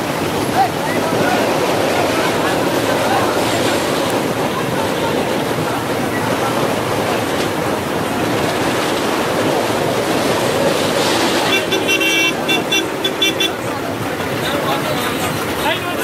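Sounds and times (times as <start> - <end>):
sea surf washing: 0.0 - 16.0.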